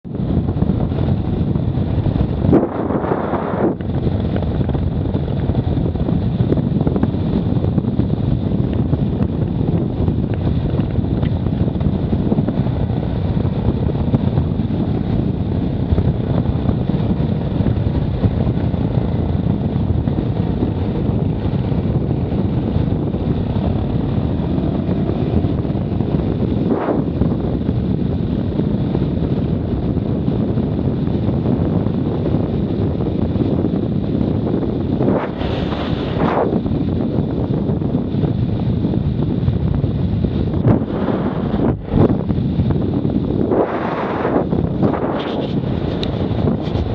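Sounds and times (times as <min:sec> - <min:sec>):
off-road vehicle running: 0:00.0 - 0:46.9
wind buffeting microphone: 0:00.0 - 0:46.9.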